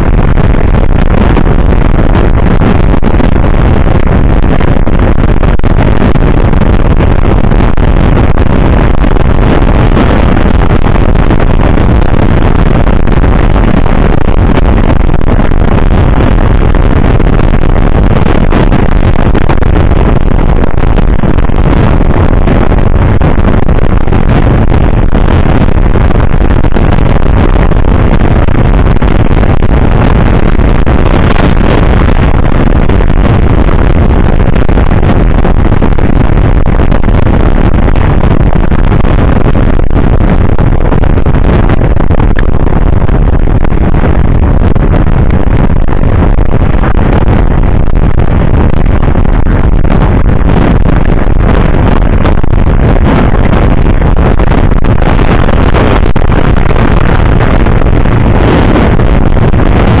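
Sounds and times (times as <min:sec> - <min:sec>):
wind rushing on microphone: 0:00.0 - 1:00.0.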